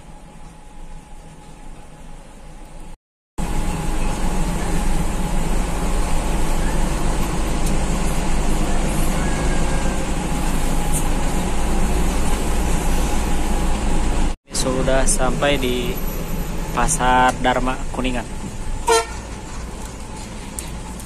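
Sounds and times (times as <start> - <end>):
bus engine hum: 0.0 - 21.0
road noise: 0.0 - 21.0.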